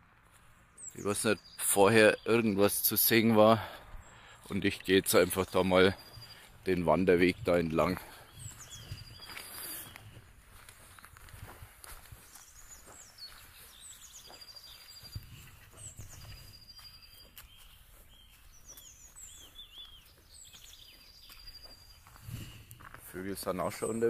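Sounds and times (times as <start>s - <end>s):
soft footsteps on trail: 0.0s - 1.4s, 2.5s - 24.0s
songbirds singing and chirping: 0.0s - 24.0s
high dry bird trill: 0.8s - 10.1s, 12.3s - 24.0s.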